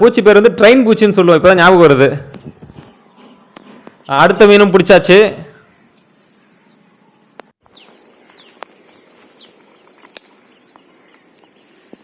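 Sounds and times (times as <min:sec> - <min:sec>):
insects droning: 0:02.3 - 0:12.0.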